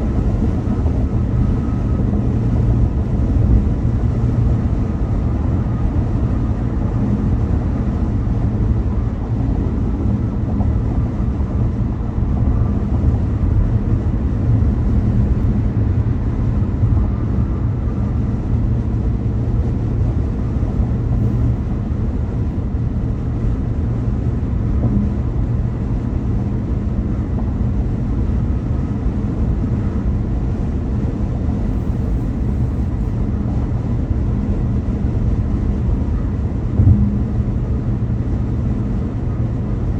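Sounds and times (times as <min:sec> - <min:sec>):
car engine: 0:00.0 - 0:39.8
car tyre and road noise: 0:00.0 - 0:39.9.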